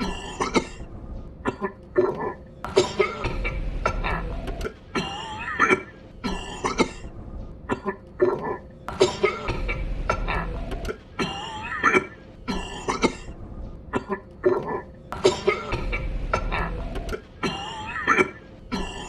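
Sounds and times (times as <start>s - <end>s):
raspy wheezing cough: 0.0s - 4.2s, 4.9s - 7.1s, 8.9s - 10.5s, 11.1s - 16.8s, 17.4s - 19.0s.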